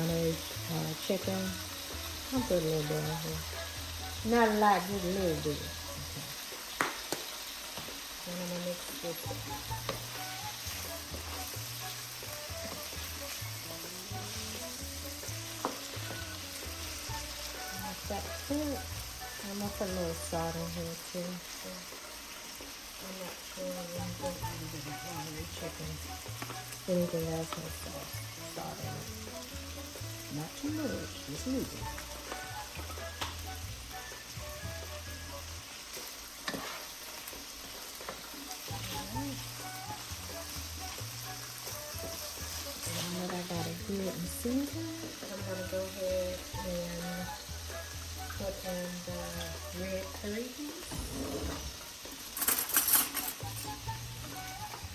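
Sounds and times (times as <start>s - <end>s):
chicken sizzling in oil: 0.0s - 52.5s, 53.1s - 54.9s.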